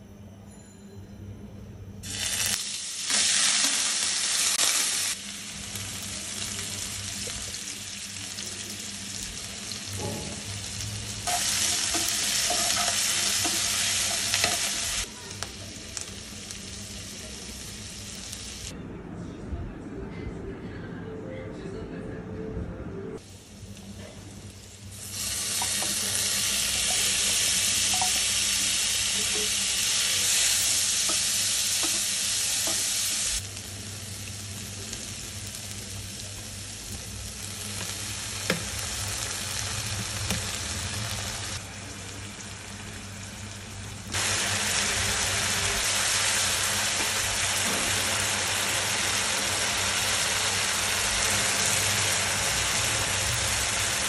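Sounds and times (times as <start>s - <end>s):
food sizzling in a frying pan: 2.0s - 18.7s, 23.2s - 54.0s.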